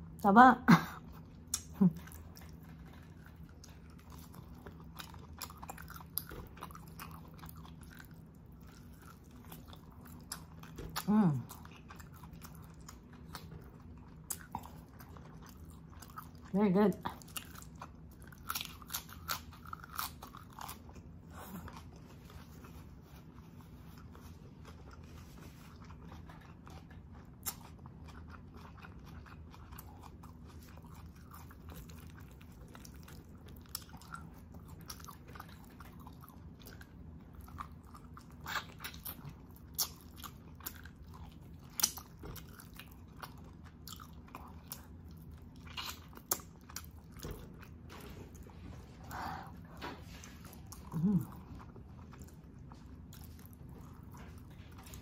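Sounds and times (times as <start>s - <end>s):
quiet chewing: 0.9s - 55.0s.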